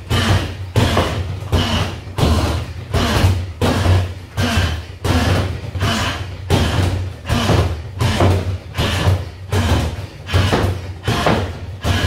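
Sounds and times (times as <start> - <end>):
kicks thudding on punch bag: 0.0 - 12.0.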